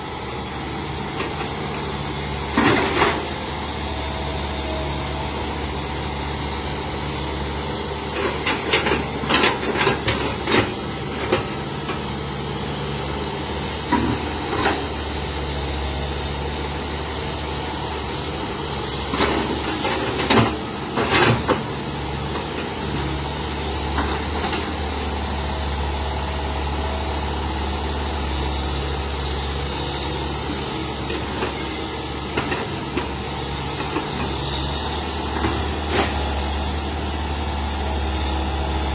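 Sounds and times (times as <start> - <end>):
excavator diesel engine humming: 0.0 - 38.9.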